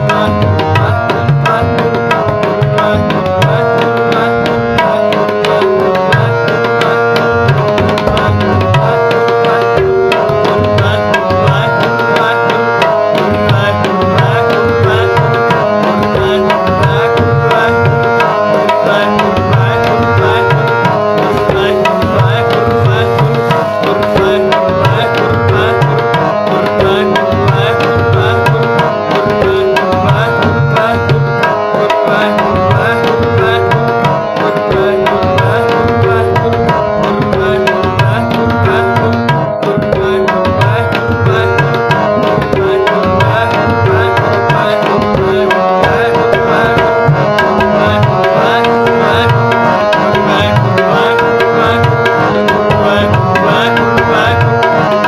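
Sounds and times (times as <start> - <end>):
harmonium notes: 0.0 - 55.0
tabla drums: 0.0 - 55.0.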